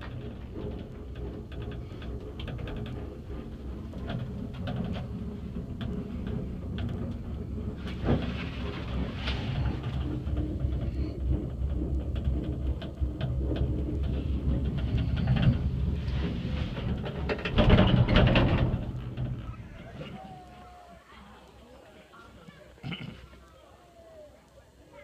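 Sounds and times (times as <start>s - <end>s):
rattles and knocks: 0.0s - 20.5s
cable car gondola rumbling: 0.0s - 25.0s.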